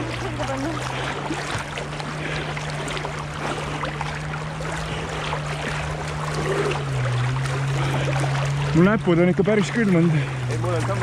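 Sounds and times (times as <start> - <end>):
steady low hum: 0.0 - 11.0
swimmers splashing: 0.0 - 11.0
water lapping: 0.0 - 11.0.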